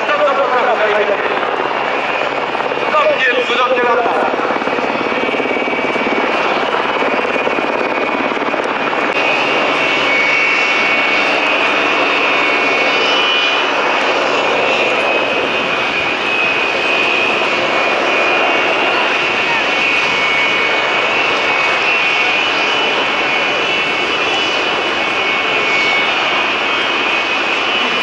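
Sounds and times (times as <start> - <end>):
aircraft engine running: 0.0 - 28.0.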